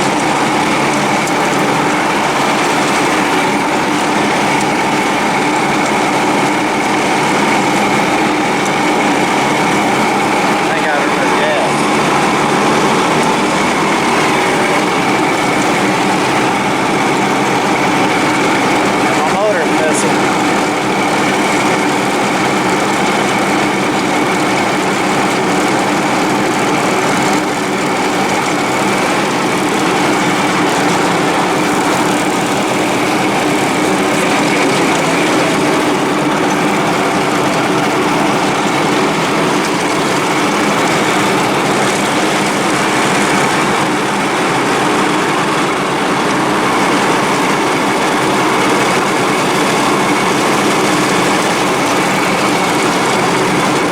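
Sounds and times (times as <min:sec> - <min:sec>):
mower engine running with misfire: 0:00.0 - 0:53.9.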